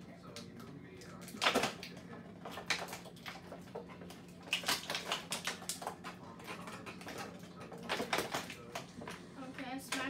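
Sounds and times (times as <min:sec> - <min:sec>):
plastic packaging clicking and crackling: 0:00.2 - 0:09.2.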